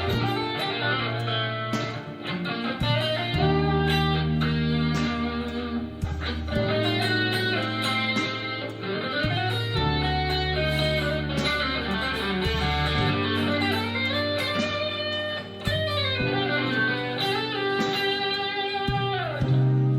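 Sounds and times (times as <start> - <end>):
overdriven electric guitar: 0.0 - 19.9.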